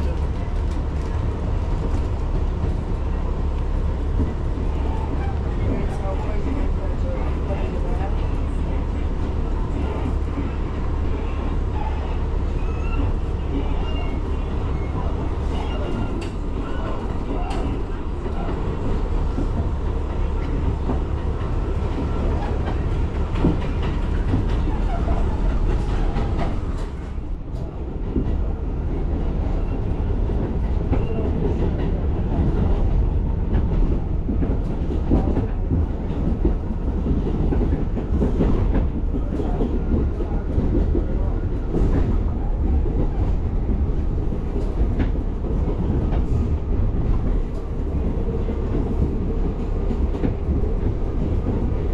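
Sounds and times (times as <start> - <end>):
subway train wheels rumbling on rails: 0.0 - 51.9
wheels clacking on rails: 0.0 - 51.9.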